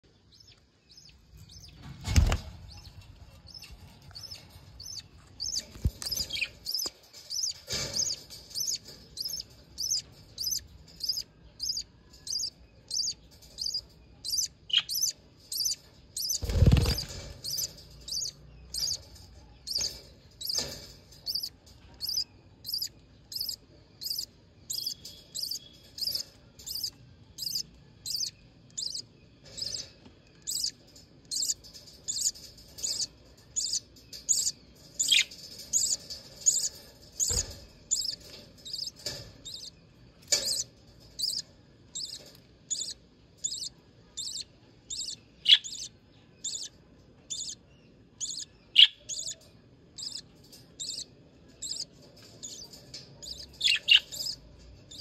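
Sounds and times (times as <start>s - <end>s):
chicks peeping: 0.2s - 46.7s, 47.3s - 47.6s, 48.2s - 55.0s.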